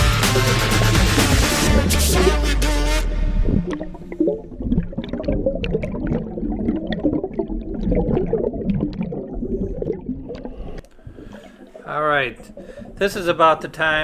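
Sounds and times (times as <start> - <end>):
underwater bubbling and gurgling: 0.8 - 2.3, 3.1 - 13.6.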